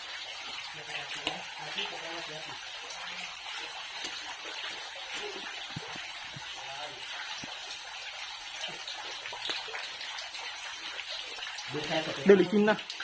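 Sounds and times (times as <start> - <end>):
water running in a cave: 0.0 - 13.0.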